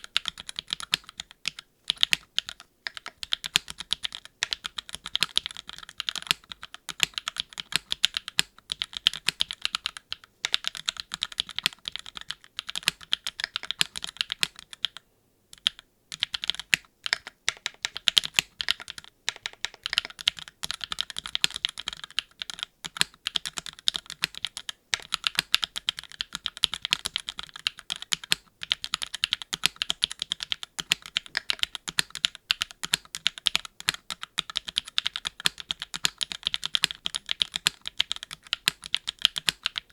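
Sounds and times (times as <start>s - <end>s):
fast typing on mechanical keyboard: 0.0s - 15.0s, 15.6s - 39.9s.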